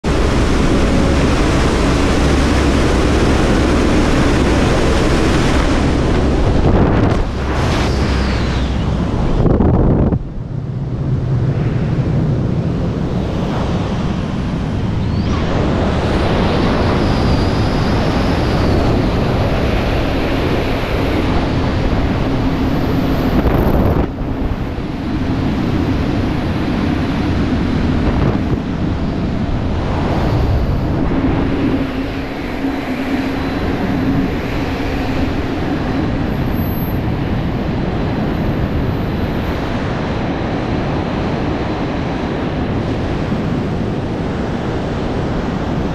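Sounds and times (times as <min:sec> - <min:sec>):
freefall wind buffeting microphone: 0:00.0 - 0:45.9.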